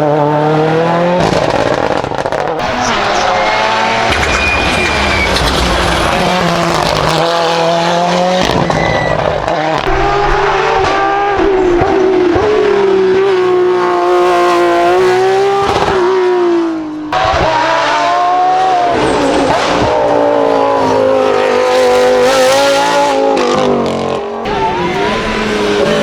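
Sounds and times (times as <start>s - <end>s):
race car engine at high revs: 0.0s - 26.0s.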